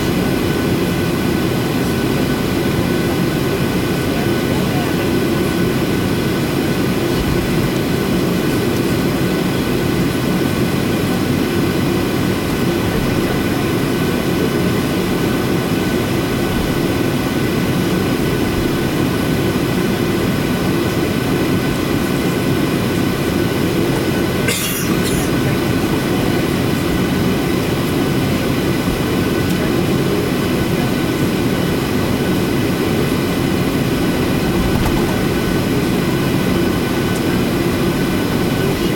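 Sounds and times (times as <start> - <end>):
jet engine whine: 0.0 - 38.9
jet engines rumbling: 0.0 - 38.9.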